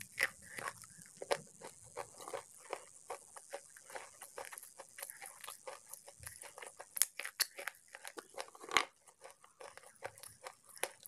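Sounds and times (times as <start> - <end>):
pencils being chewed crunching: 0.0 - 11.0.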